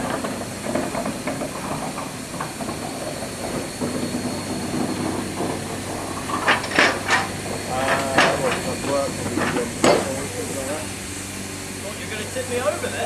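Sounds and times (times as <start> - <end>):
steam hissing: 0.0 - 13.0
train moving: 0.0 - 13.0.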